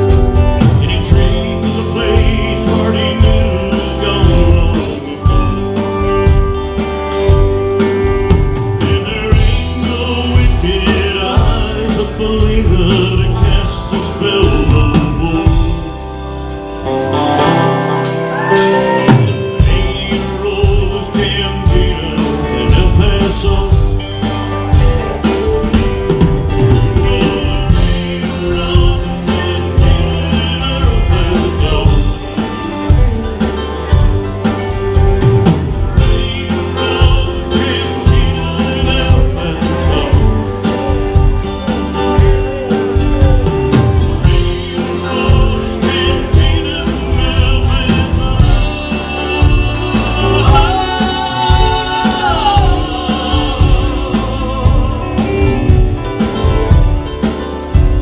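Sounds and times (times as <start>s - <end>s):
drum kit: 0.0s - 58.0s
electric bass: 0.0s - 58.0s
electric guitars: 0.0s - 58.0s
keyboard: 0.0s - 58.0s.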